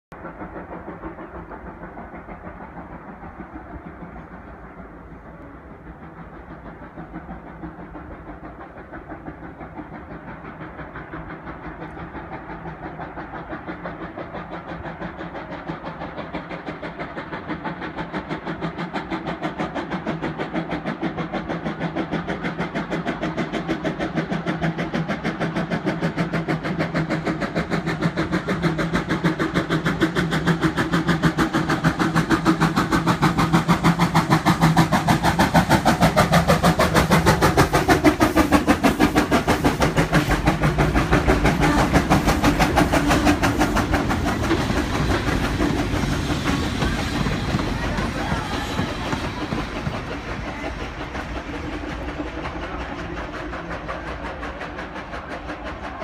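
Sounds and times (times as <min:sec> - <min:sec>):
steam locomotive chuffing: 0:00.1 - 0:56.0.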